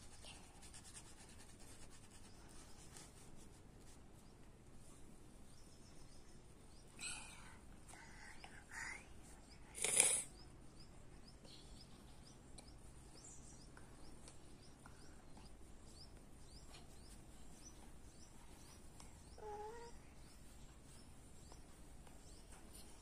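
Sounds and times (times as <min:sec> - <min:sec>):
bird chirping faintly: 0:00.0 - 0:23.0.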